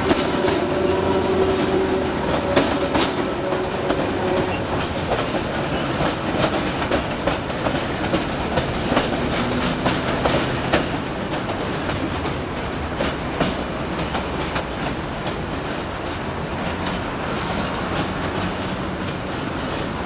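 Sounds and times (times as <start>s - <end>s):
train wheels rumbling on rails: 0.0s - 20.0s
wheels clicking over rail joints: 0.0s - 20.0s.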